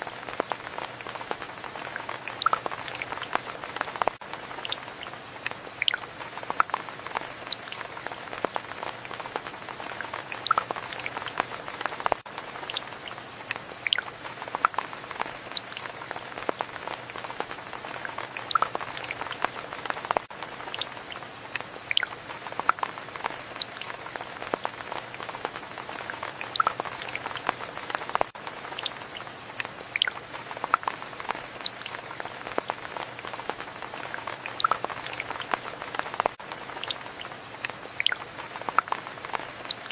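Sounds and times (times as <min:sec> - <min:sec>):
rain drops pattering and dripping: 0:00.0 - 0:39.9.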